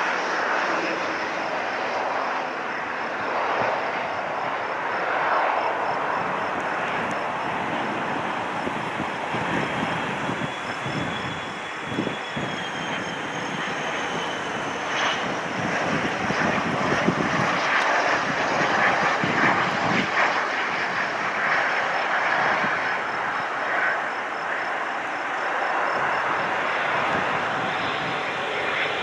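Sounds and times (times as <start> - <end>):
jet engine whine: 0.0 - 29.0
rushing jet noise: 0.0 - 29.0.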